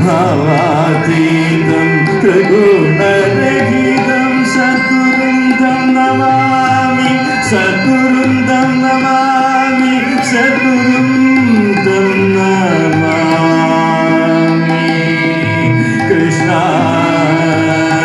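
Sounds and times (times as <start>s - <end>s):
man singing into microphone: 0.0s - 18.0s
steady drone: 0.0s - 18.0s
violin: 0.0s - 18.0s.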